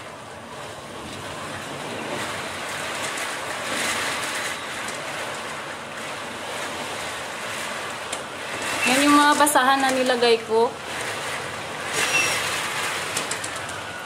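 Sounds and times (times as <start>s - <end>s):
heavy rain beating on a window: 0.0s - 14.0s.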